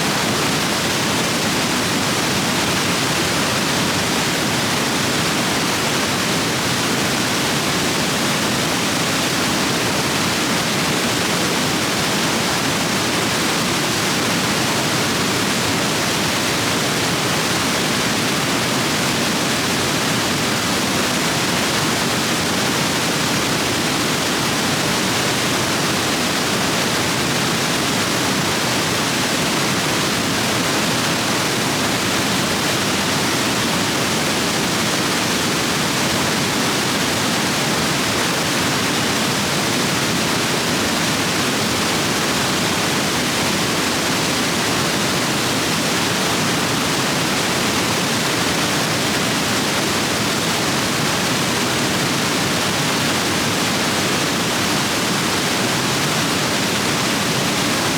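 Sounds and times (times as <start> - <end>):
stream rapids rushing water: 0.0 - 57.9.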